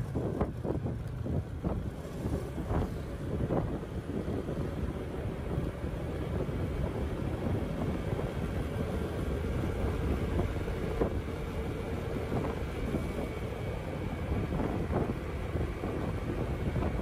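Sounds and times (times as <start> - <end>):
low vehicle rumble: 0.0 - 17.0
wind noise on microphone: 0.0 - 17.0.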